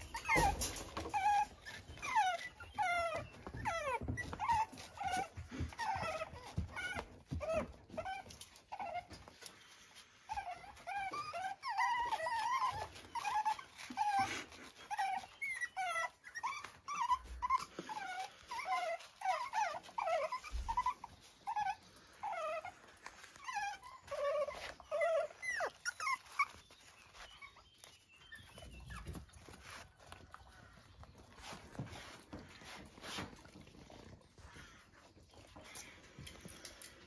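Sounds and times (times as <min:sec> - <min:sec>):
puppies growling and yipping: 0:00.0 - 0:37.0.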